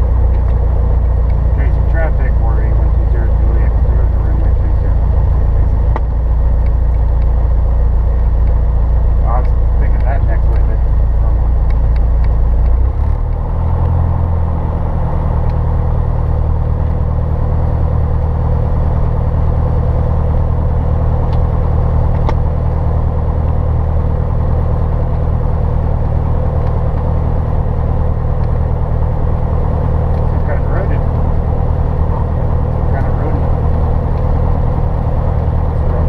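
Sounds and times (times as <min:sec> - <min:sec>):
light airplane engine and propeller drone: 0:00.0 - 0:36.0.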